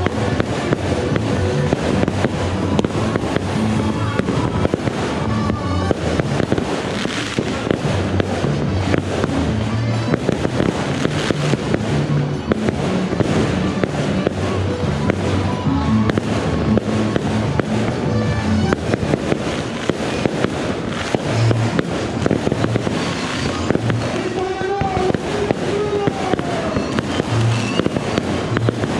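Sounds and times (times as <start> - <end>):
fireworks cracking and popping: 0.0 - 28.9
loud music with bass: 0.0 - 28.9.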